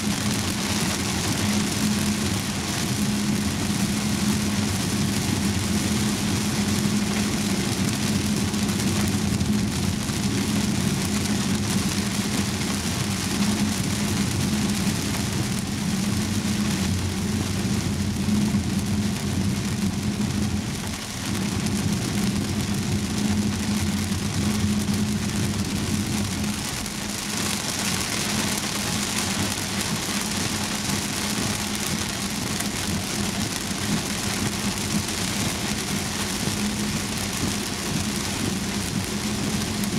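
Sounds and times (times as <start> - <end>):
car engine and road drone: 0.0 - 39.9
heavy rain on car roof: 0.0 - 39.9.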